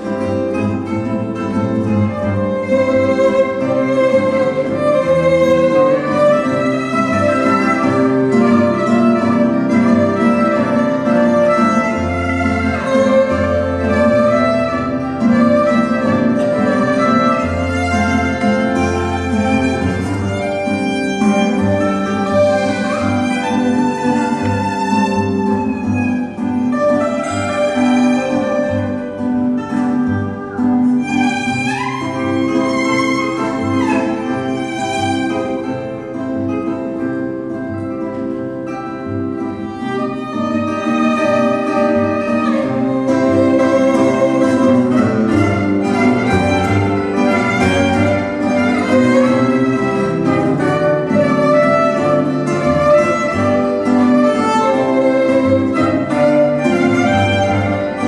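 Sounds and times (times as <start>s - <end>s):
guitar accompaniment: 0.0s - 58.0s
violin melody: 0.0s - 58.0s.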